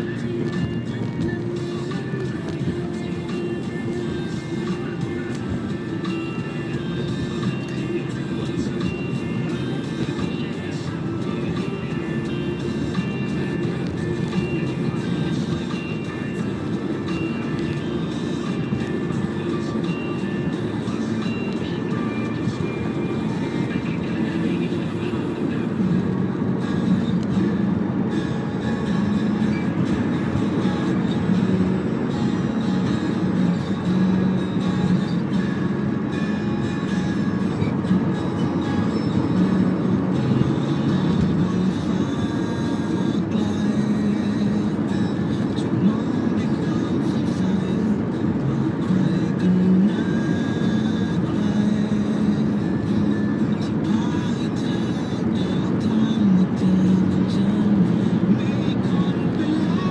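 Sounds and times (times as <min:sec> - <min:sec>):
car engine rumble: 0:00.0 - 0:59.9
tyre road noise: 0:00.0 - 0:59.9.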